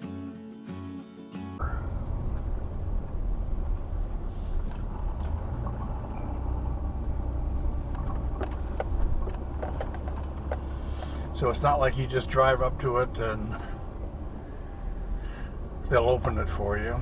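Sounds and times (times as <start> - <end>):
moving vehicle rumble: 1.6 - 17.0.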